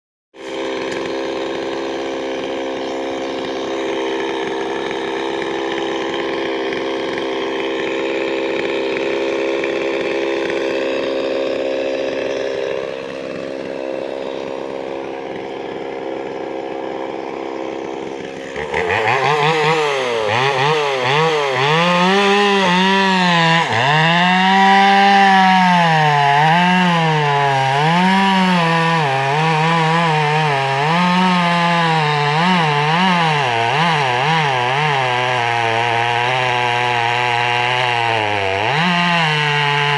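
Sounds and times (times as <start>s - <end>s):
chainsaw cutting wood: 0.4s - 39.9s.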